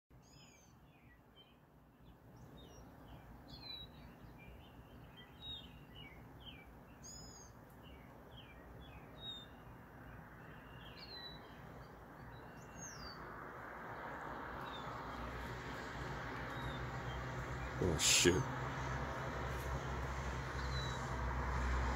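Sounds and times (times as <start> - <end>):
songbirds chirping: 0.1 - 21.9.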